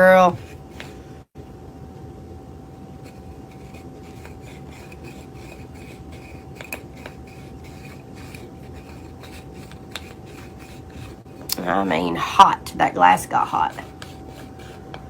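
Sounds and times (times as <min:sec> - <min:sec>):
rubbing and rustling: 0:00.0 - 0:01.1, 0:02.8 - 0:12.2, 0:13.3 - 0:15.0
steady hum: 0:00.0 - 0:15.0.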